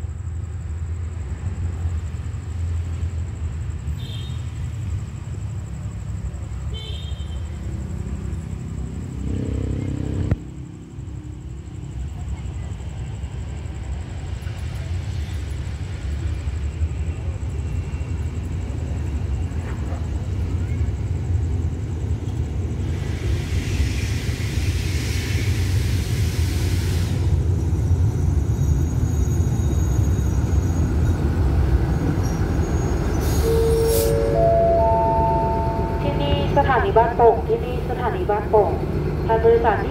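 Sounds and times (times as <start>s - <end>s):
diesel train rumbling: 0.0s - 39.9s.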